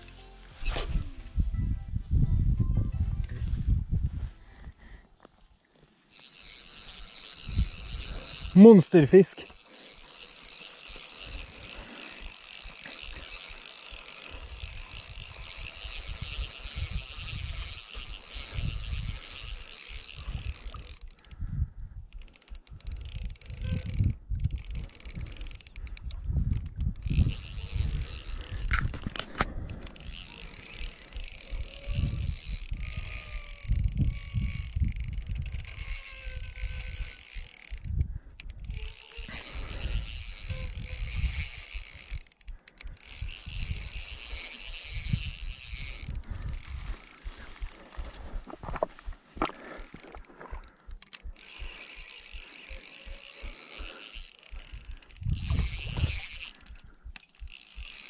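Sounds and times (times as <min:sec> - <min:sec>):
fishing reel ticking whir: 0:06.1 - 0:58.0.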